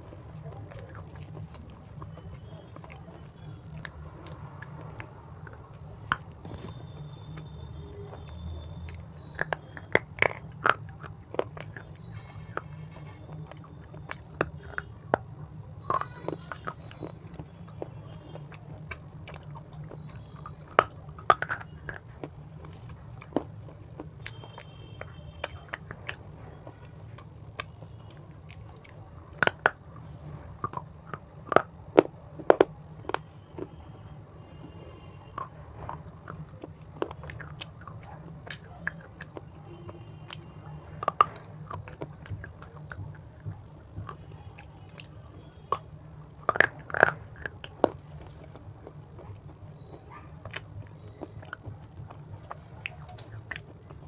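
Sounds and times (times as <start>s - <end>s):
crunchy snack chewing: 0.0s - 54.0s
wet mouth clicks: 0.1s - 33.8s, 34.5s - 54.0s.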